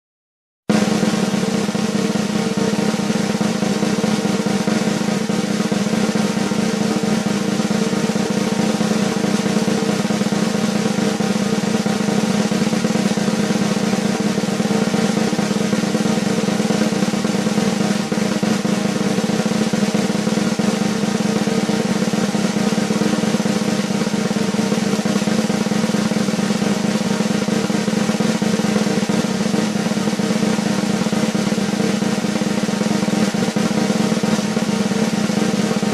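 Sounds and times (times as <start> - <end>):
snare drum roll: 0.7 - 35.9.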